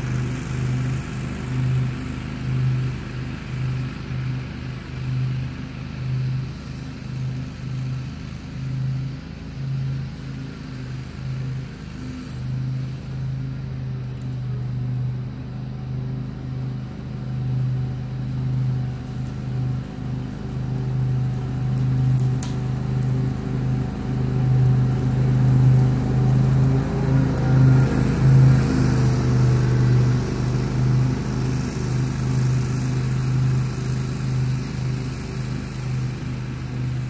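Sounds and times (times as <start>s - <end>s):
riding mower engine droning: 0.0s - 37.0s.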